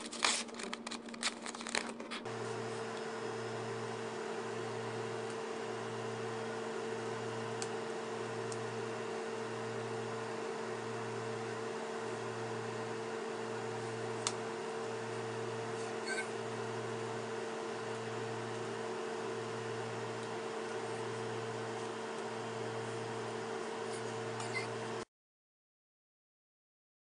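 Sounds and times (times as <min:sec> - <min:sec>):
machine hum with pulsing low note: 0:02.3 - 0:25.0.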